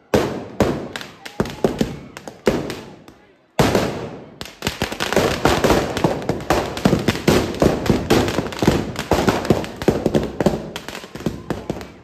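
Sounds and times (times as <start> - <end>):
firecrackers banging and crackling: 0.0 - 12.0.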